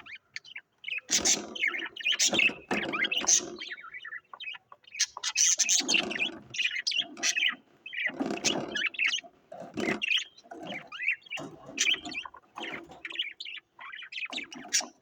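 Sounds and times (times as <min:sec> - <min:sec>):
cage birds chirping: 0:00.0 - 0:15.0.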